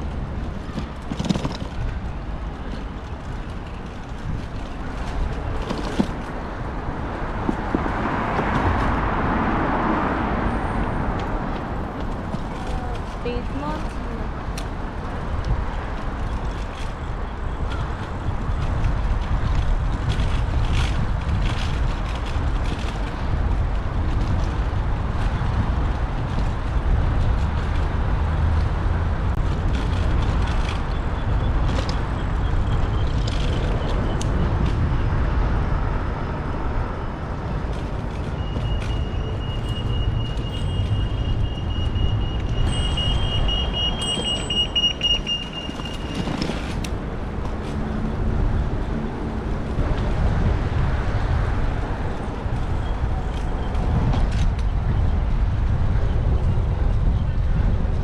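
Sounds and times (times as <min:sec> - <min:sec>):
bicycle rattles and knocks: 0:00.0 - 0:58.0
wind and road rumble: 0:00.0 - 0:58.0.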